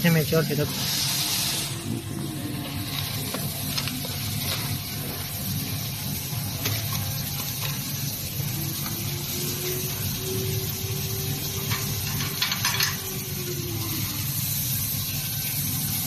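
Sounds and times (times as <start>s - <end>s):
steady hum and hiss: 0.0s - 16.0s.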